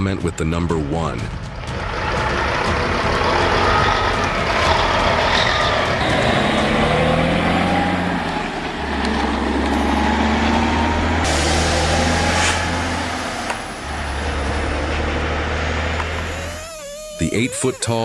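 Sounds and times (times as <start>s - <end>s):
heavy truck engine running: 1.2s - 15.8s.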